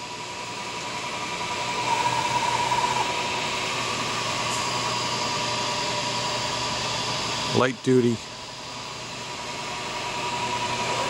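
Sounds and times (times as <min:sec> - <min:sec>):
low machine hum: 0:00.0 - 0:11.0
mill mechanical whine: 0:00.0 - 0:11.0.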